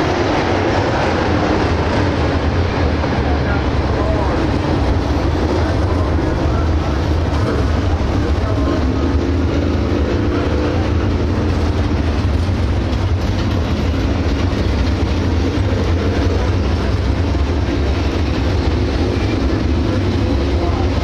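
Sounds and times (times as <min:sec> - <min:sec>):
race car engines rumbling: 0:00.0 - 0:21.0.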